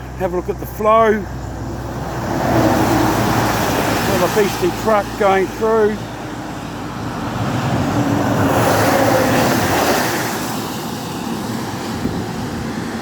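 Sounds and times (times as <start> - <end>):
heavy truck passing: 0.0 - 13.0
rushing river water: 0.0 - 13.0.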